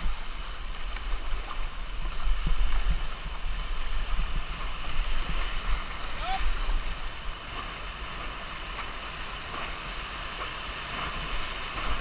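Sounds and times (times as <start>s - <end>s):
paddle splashing in water: 0.0s - 12.0s
river rapids rushing: 0.0s - 12.0s.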